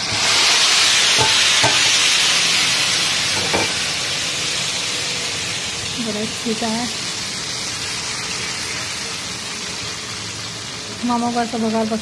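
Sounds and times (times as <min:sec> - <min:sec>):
fried onions sizzling in hot oil: 0:00.0 - 0:12.0.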